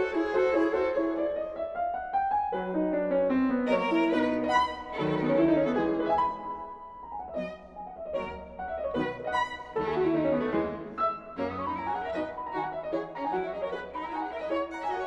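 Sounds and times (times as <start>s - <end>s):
piano accompaniment: 0.0s - 15.0s
violin melody: 0.0s - 15.0s.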